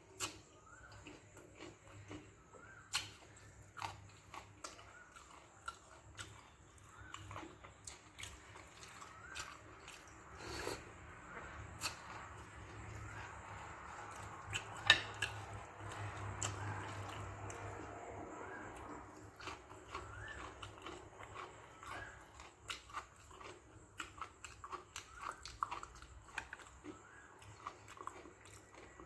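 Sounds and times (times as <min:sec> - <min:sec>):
wet mouth clicks and chewing: 0:00.2 - 0:29.0.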